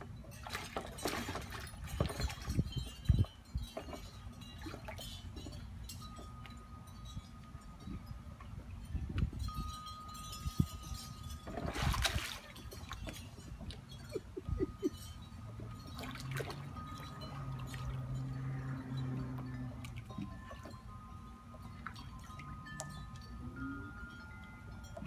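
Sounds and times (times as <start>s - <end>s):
pool water splashing and lapping: 0.0s - 6.9s, 9.8s - 25.0s.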